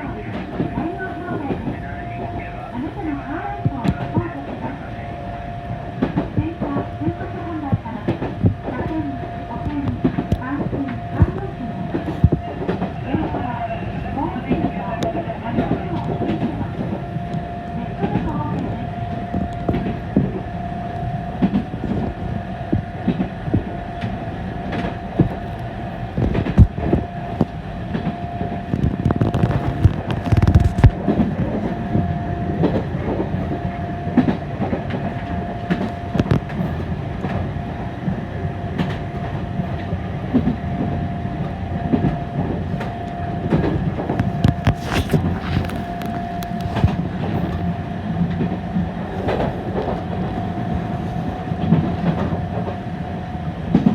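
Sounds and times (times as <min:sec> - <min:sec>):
tram rumble and whine: 0:00.0 - 0:53.9.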